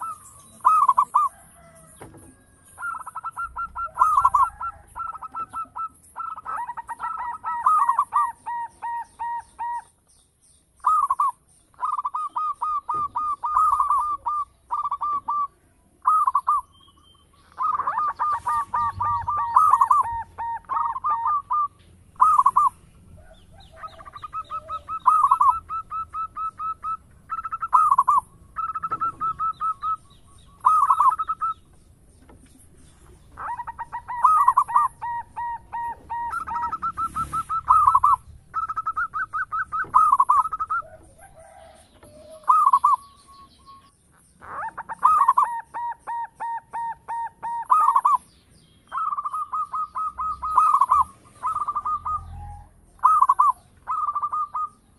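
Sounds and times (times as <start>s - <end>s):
dove cooing: 0.0s - 10.1s, 10.8s - 54.9s.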